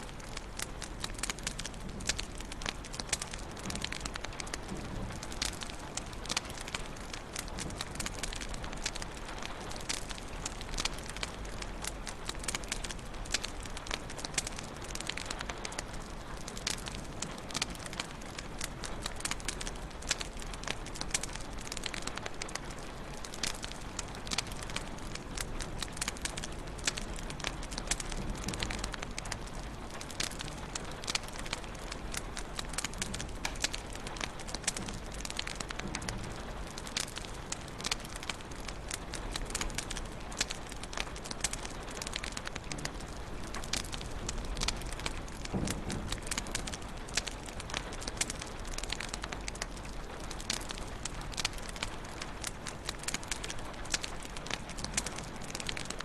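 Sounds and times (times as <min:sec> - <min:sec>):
fire pops and crackles: 0:00.0 - 0:56.0.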